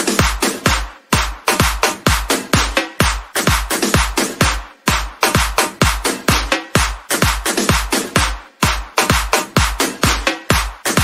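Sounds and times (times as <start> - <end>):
electronic dance-pop music: 0.0 - 11.0.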